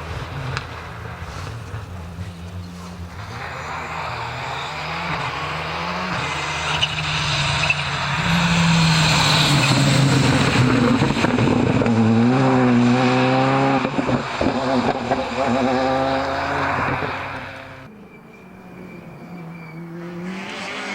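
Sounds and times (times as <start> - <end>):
rally car engine revving: 0.0 - 20.9.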